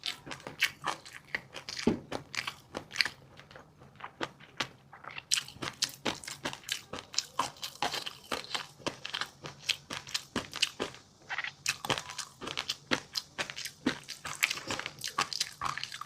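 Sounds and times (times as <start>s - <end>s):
crunchy chewing with pops: 0.0s - 16.0s.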